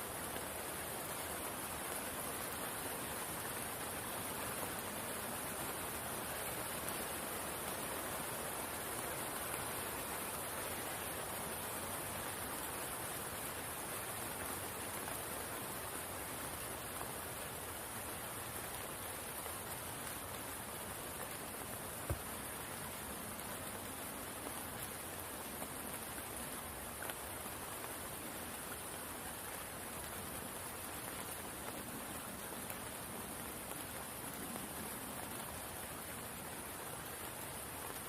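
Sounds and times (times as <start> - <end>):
rain falling on water: 0.0 - 38.0.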